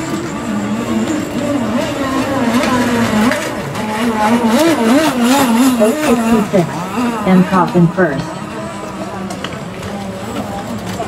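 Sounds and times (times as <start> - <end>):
model boat engine revving: 0.0 - 11.0.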